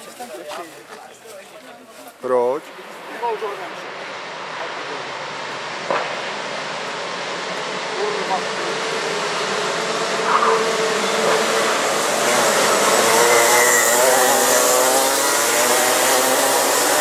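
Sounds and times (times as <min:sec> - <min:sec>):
go-kart engines buzzing: 0:02.7 - 0:17.0.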